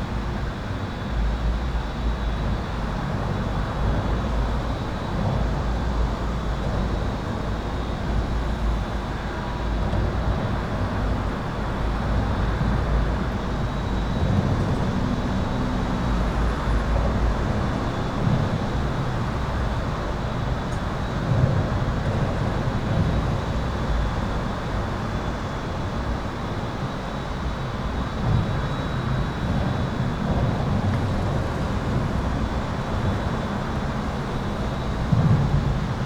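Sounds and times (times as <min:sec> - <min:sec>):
highway traffic rumble: 0:02.2 - 0:36.0.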